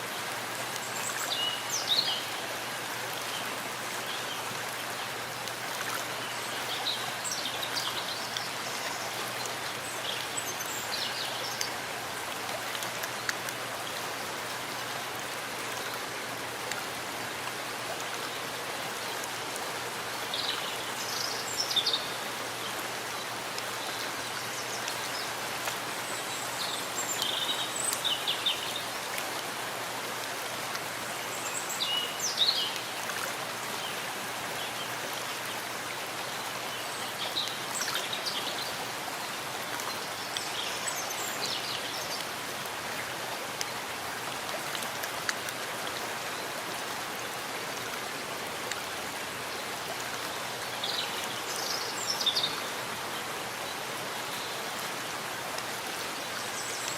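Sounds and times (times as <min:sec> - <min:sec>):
rain falling in a forest: 0:00.0 - 0:56.9
trickling water: 0:00.0 - 0:56.9.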